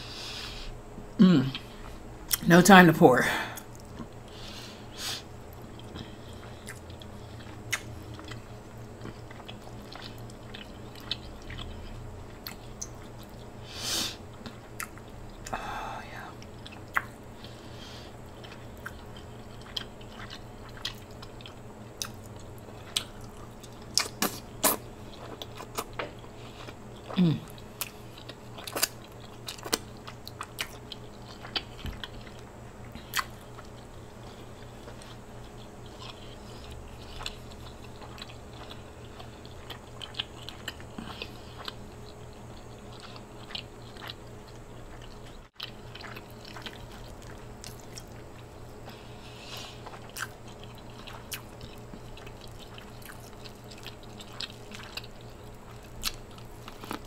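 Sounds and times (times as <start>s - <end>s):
steady low hum: 0.0s - 57.0s
chewing and biting shrimp: 5.2s - 13.6s, 14.3s - 15.6s, 16.4s - 57.0s.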